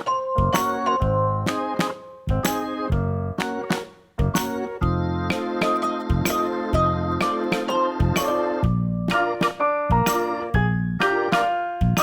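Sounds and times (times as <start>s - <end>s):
keyboard notes over bass line: 0.0s - 12.0s.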